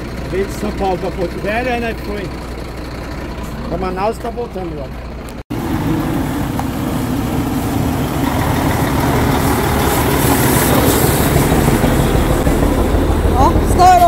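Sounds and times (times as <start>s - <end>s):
heavy truck diesel engine: 0.0s - 14.0s.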